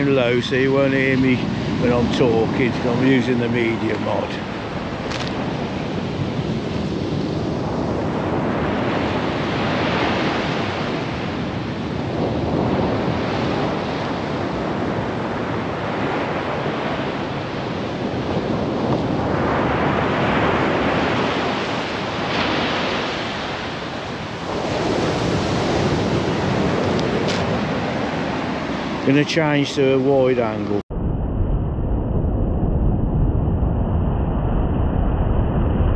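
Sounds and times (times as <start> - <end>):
waves breaking on a beach: 0.0 - 30.8.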